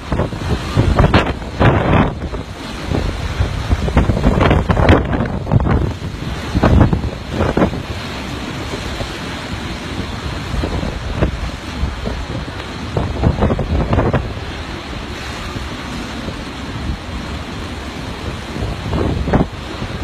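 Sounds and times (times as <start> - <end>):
rough water: 0.0 - 20.0
strong wind blowing: 0.0 - 20.0
wind buffeting microphone: 0.0 - 20.0.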